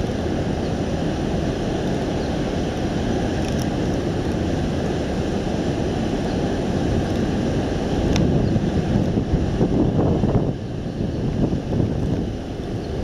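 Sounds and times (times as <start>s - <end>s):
low rushing outdoor noise: 0.0s - 13.0s.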